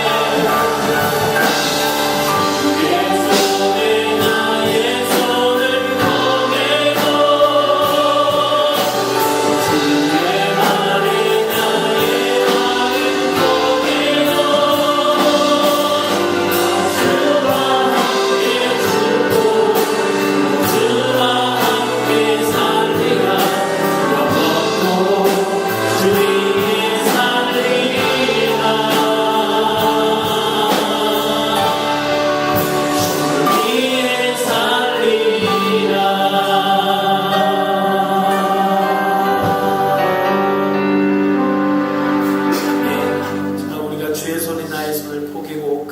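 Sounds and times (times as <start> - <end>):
group singing worship song: 0.0 - 43.7
instrumental accompaniment: 0.0 - 45.9.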